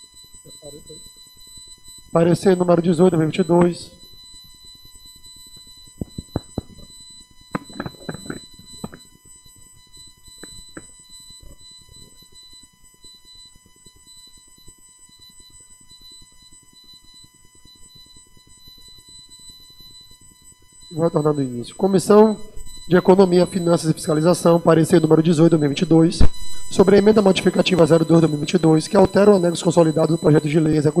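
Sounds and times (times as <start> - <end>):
high-pitched electronic whine: 0.0 - 31.0.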